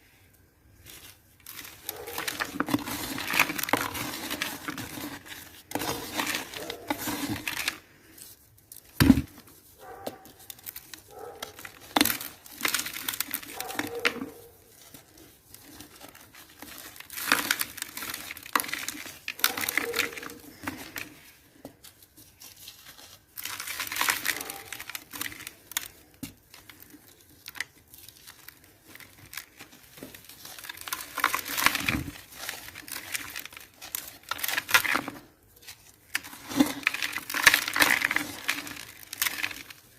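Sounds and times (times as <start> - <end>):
cement crumbling and crunching: 0.9 - 39.9.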